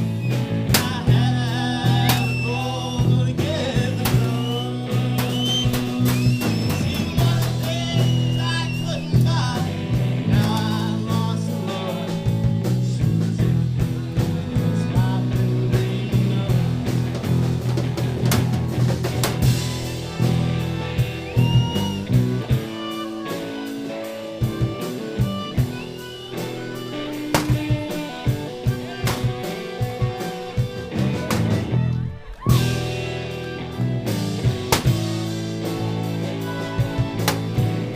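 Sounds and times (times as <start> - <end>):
blues-rock band playing: 0.0 - 37.9
person singing: 0.3 - 17.8, 19.7 - 33.8, 35.6 - 37.9.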